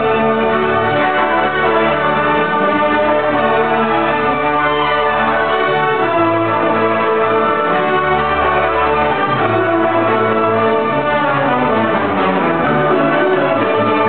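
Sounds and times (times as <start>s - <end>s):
orchestra playing sustained chords: 0.0s - 14.0s.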